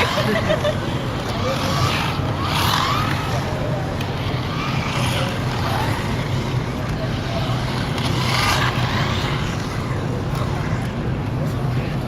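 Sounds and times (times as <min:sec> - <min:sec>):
many people talking: 0:00.0 - 0:12.0
steady low hum: 0:00.0 - 0:12.0.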